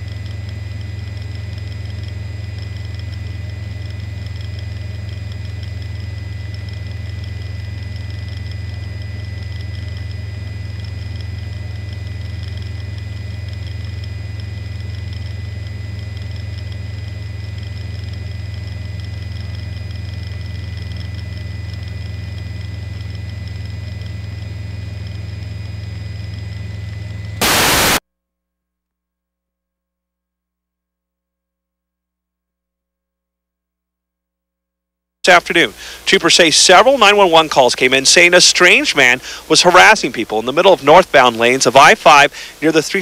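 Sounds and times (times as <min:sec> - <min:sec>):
helicopter engine and rotor: 0:00.0 - 0:28.0, 0:35.6 - 0:42.6.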